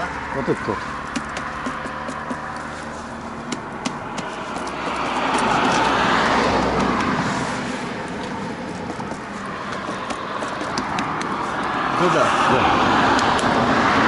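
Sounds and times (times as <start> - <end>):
road vehicle passing by: 0.0 - 14.0.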